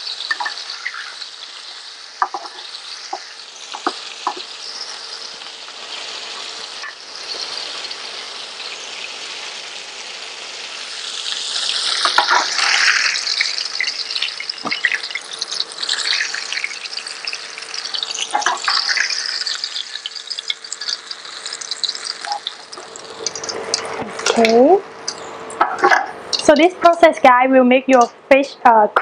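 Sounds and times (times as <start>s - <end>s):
fish deep-frying in oil: 0.0s - 28.9s.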